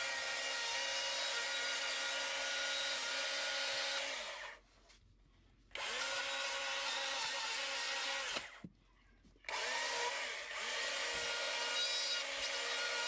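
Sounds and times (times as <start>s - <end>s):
electric chainsaw cutting wood: 0.0s - 4.6s, 5.8s - 8.6s, 9.5s - 13.0s.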